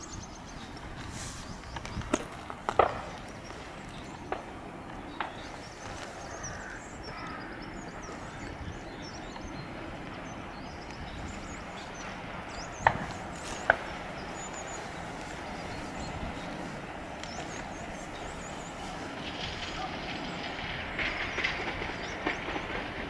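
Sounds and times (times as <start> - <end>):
distant diesel locomotive rumble: 0.0 - 23.0
small birds chirping: 0.0 - 23.0.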